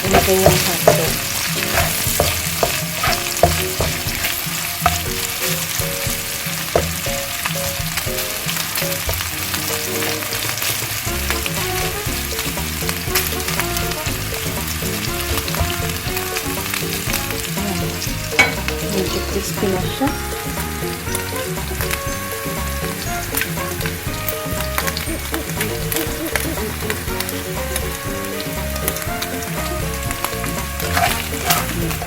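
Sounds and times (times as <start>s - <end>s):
bacon sizzling in a frying pan: 0.0s - 32.0s
soft background music: 0.0s - 32.0s.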